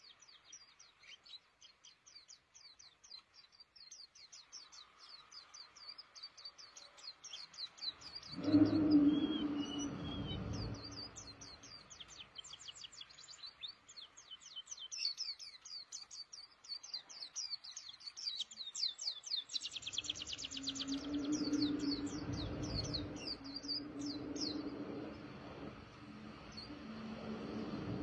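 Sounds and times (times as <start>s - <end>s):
bird singing high chirps: 0.0s - 28.0s.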